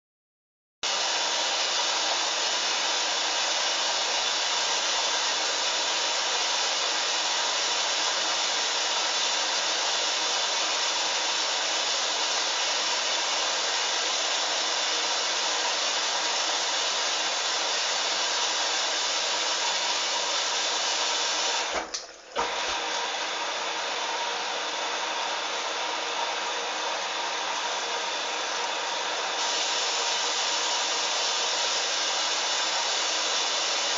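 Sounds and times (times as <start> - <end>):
washing machine filling with water: 0.9 - 33.9.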